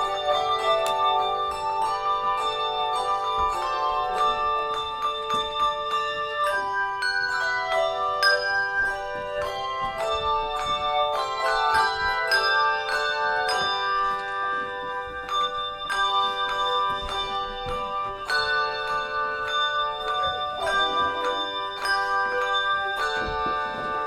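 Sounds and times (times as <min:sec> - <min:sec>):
handbell choir playing: 0:00.0 - 0:24.0.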